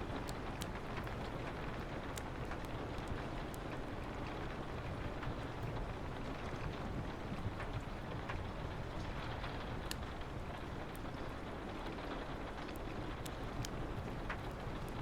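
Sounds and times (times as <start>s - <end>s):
rain on a window: 0.0s - 15.0s
wood fire crackling: 0.0s - 15.0s.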